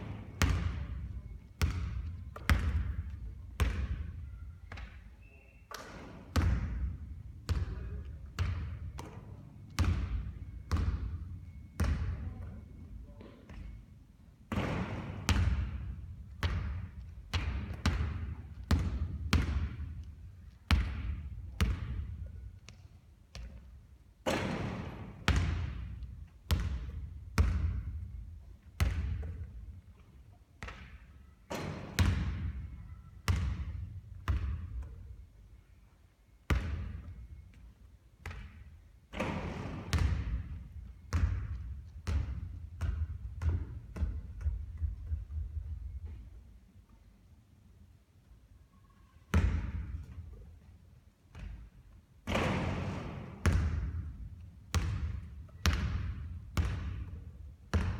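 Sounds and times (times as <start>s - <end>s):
basketball bouncing on court: 0.0s - 5.0s, 5.7s - 12.6s, 14.5s - 29.8s, 30.6s - 35.2s, 36.5s - 37.3s, 38.2s - 46.2s, 49.3s - 50.3s, 51.3s - 57.9s.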